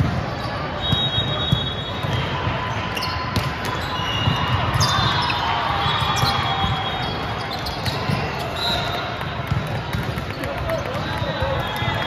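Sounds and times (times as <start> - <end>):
busy gymnasium background noise: 0.0 - 12.0
volleyballs bouncing on gym floor: 0.0 - 12.0.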